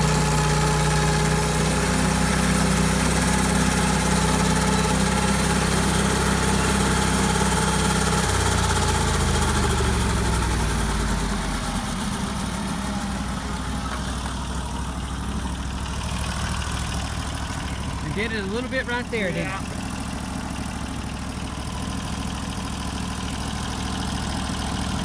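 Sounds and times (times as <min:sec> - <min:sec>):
sawmill engine running: 0:00.0 - 0:25.0.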